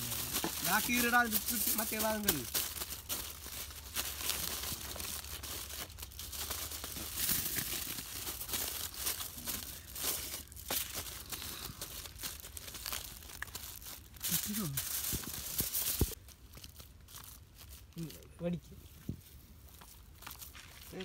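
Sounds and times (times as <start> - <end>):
aluminium foil crinkling: 0.0 - 18.2.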